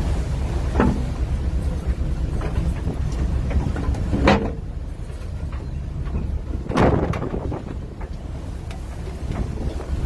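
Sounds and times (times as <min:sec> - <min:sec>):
boat engine rumble: 0:00.0 - 0:10.0
wind rumble on microphone: 0:00.0 - 0:10.0.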